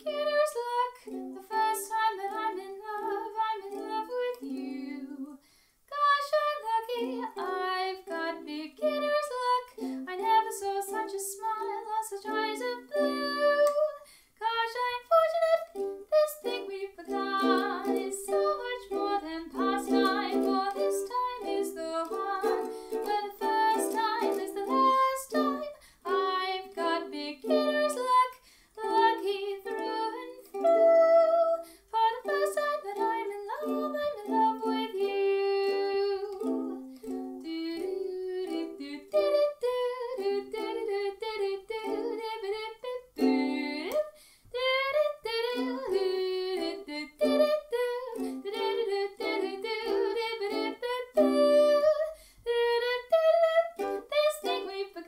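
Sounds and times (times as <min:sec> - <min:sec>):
ukulele plucked tune: 0:00.0 - 0:05.3, 0:06.0 - 0:55.0.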